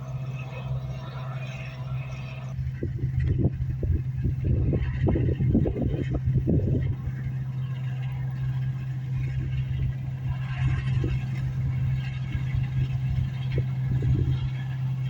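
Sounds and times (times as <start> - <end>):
harvester engine humming: 0.0 - 15.0.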